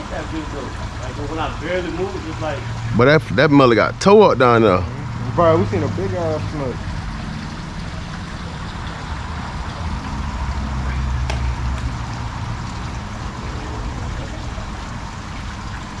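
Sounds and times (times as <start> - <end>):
water rushing over dam: 0.0 - 16.0.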